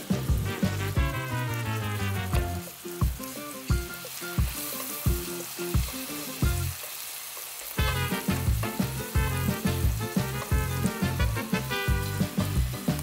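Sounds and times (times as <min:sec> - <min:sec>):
background music with steady beat: 0:00.0 - 0:07.0, 0:07.6 - 0:13.0
mushrooms sizzling in a wok: 0:00.0 - 0:13.0.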